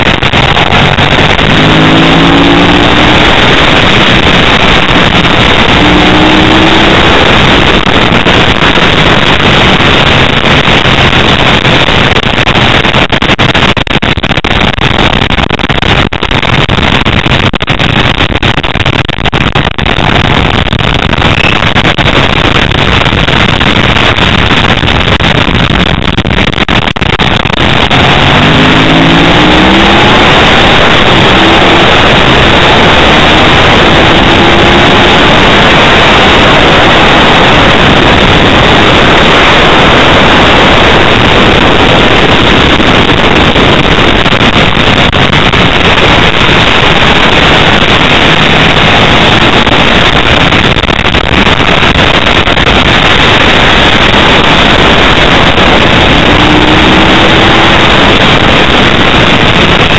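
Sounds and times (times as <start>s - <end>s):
motorcycle engine roaring: 0.0s - 59.9s
wind rush: 0.0s - 59.9s.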